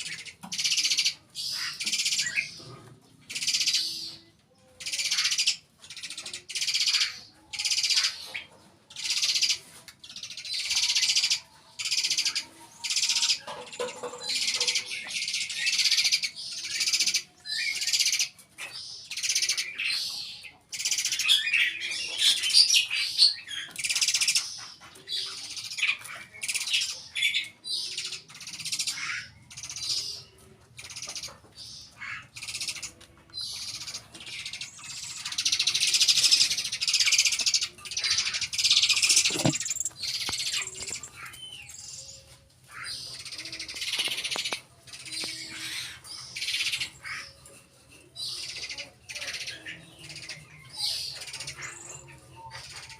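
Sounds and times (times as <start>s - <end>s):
nestling birds calling: 4.8s - 52.9s.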